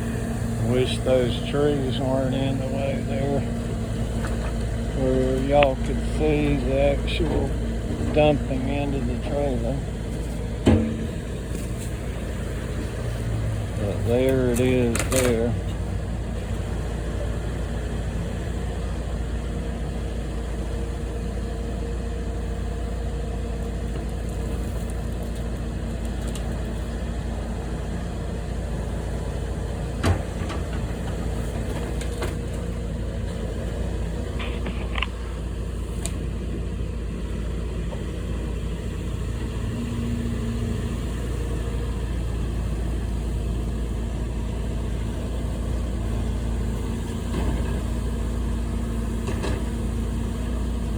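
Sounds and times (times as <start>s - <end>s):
machine engine humming: 0.0s - 50.9s.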